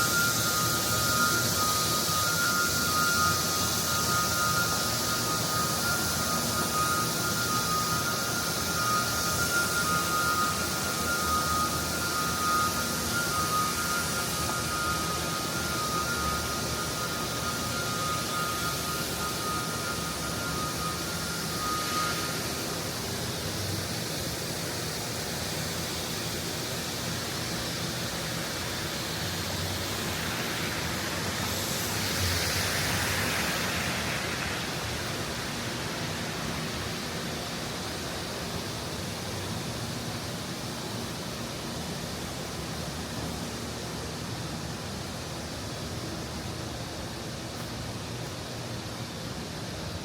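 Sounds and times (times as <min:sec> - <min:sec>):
rushing noise of snowy city street: 0:00.0 - 0:50.0.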